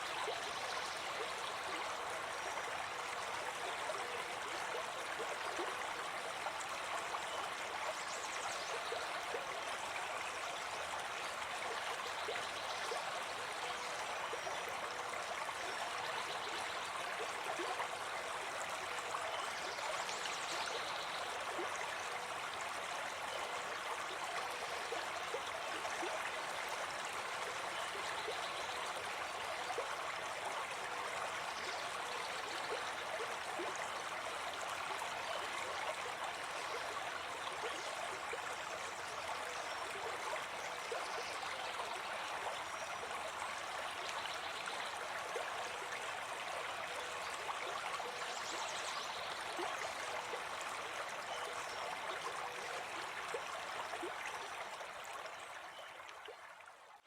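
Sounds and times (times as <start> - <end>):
stream babbling: 0.0 - 56.7.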